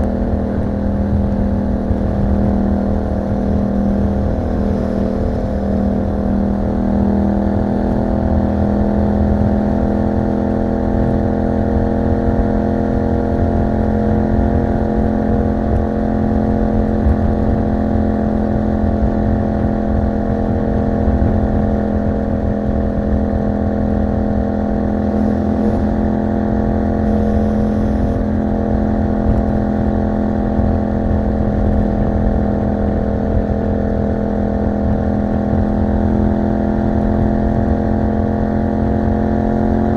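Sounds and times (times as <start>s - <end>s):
low wind rumble on microphone: 0.0s - 39.9s
motorcycle engine running: 0.0s - 39.9s.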